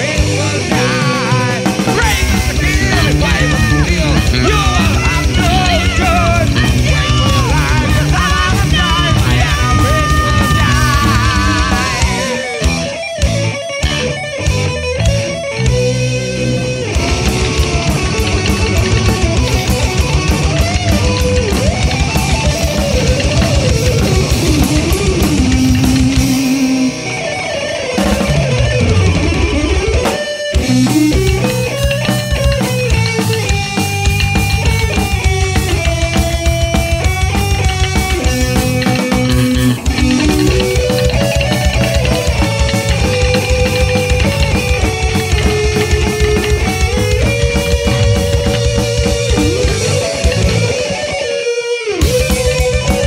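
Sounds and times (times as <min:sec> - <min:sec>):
fast steady drumming: 0:00.0 - 0:14.0, 0:16.9 - 0:27.1, 0:28.0 - 0:51.1, 0:52.0 - 0:53.0
lead electric guitar bending: 0:00.0 - 0:53.0
rhythm guitar: 0:00.0 - 0:53.0.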